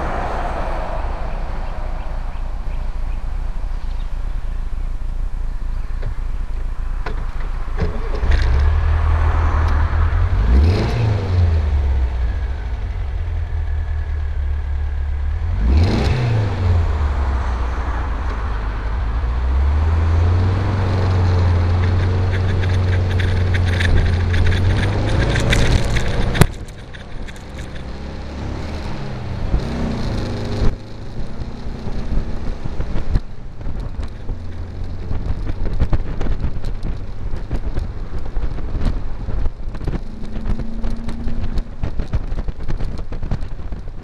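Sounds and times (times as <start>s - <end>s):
road and wind noise: 0.0s - 44.0s
dune buggy engine running: 7.4s - 44.0s.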